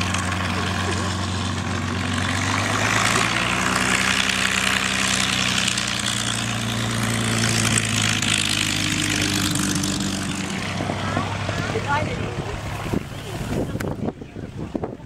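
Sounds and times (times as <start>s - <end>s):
propeller plane engine idling: 0.0s - 15.0s.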